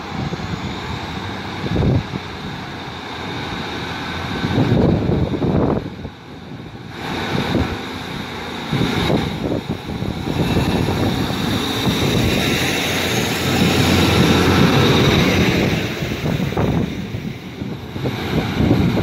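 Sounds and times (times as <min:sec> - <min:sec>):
diesel train engines: 0:00.0 - 0:19.0
train wheels on rails: 0:00.0 - 0:19.0.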